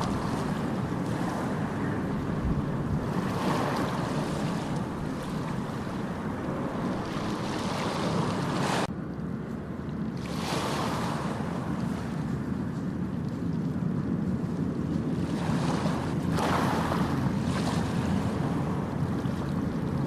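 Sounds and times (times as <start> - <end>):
ocean waves breaking: 0.0 - 20.0
wind on microphone: 0.0 - 20.0.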